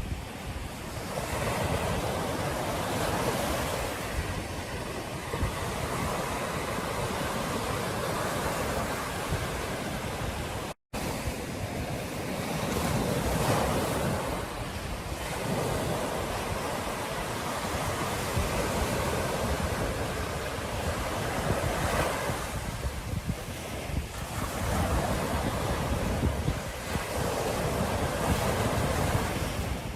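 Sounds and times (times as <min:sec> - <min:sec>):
surf breaking on beach: 0:00.0 - 0:29.9.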